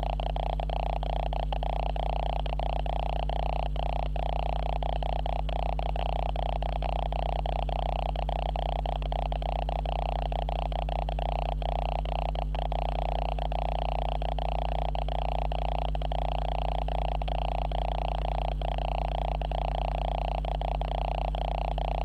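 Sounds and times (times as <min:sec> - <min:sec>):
camera electrical hum: 0:00.0 - 0:22.0.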